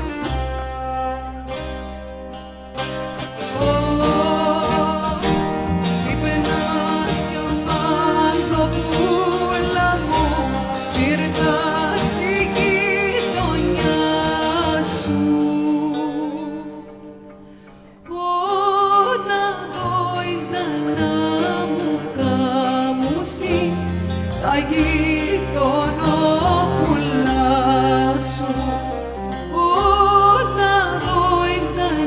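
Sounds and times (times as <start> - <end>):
folk music ensemble: 0.0 - 32.0.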